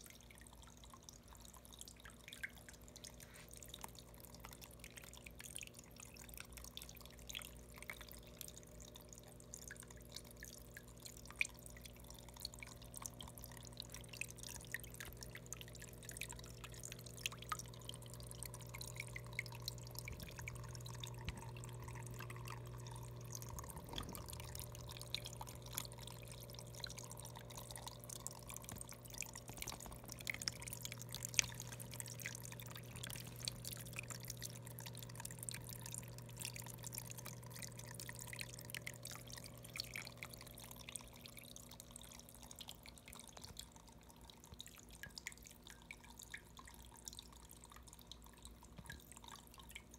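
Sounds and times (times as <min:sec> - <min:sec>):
small waterfall trickling: 0:00.0 - 0:49.9
water drips and splashes: 0:00.0 - 0:49.9.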